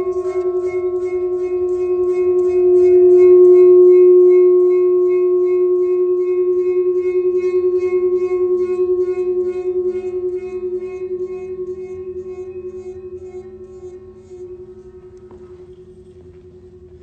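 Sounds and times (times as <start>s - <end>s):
metal plate ringing tone: 0.0s - 17.0s.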